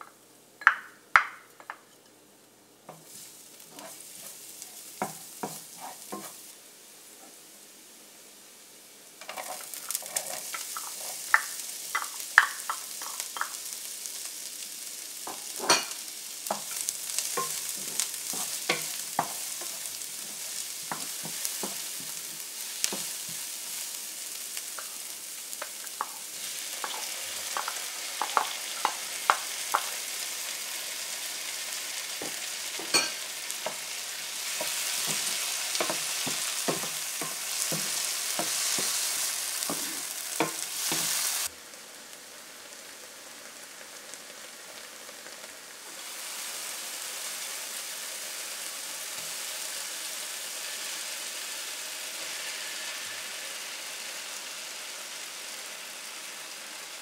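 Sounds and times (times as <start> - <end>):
onions sizzling in a frying pan: 0.0 - 57.0.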